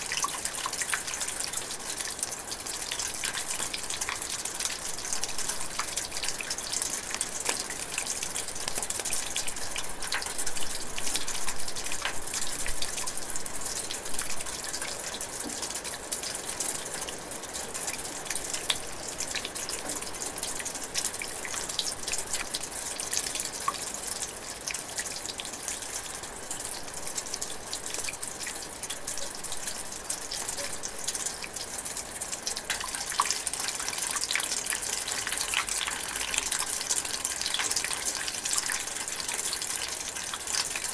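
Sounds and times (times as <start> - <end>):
drizzling rain: 0.0 - 40.9
raindrops ticking: 0.0 - 40.9.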